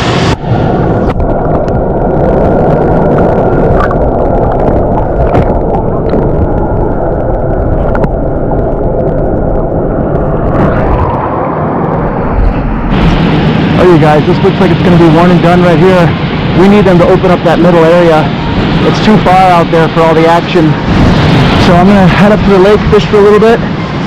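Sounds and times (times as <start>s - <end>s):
deep rumble: 0.0s - 24.0s.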